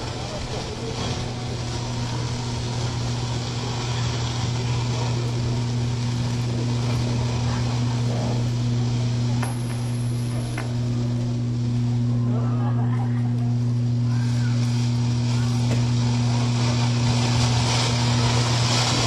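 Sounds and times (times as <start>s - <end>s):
faint voices: 0.0s - 19.0s
steady low hum: 0.0s - 19.0s.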